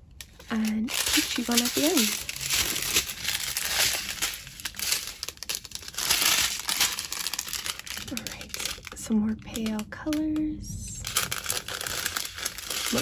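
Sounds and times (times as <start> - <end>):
plastic bags crinkling: 0.0 - 10.4, 11.0 - 13.0.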